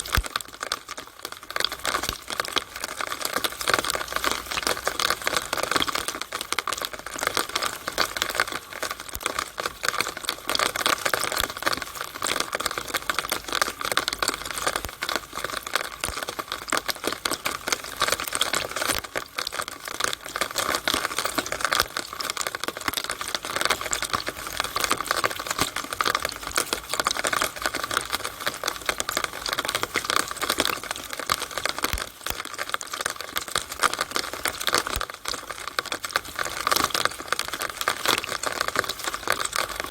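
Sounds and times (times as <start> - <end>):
rainwater splattering through downspout: 0.0 - 39.9.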